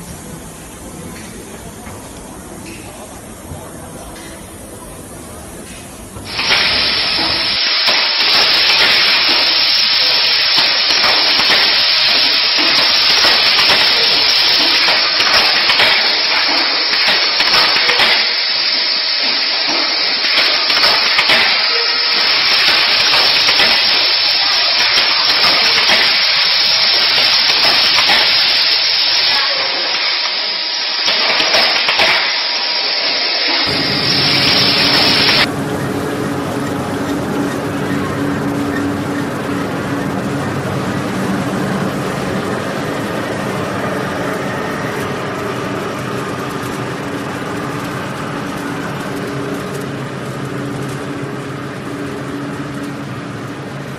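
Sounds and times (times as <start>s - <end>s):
loud steady hissing: 0.0s - 53.9s.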